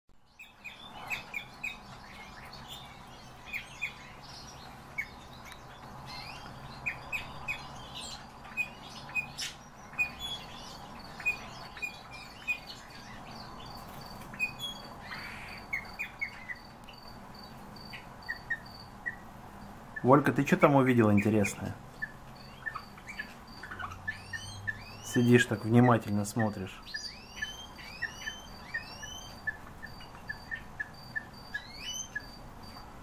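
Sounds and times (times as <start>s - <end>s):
songbirds chirping: 0.2s - 33.0s
steady background hum: 0.2s - 33.0s.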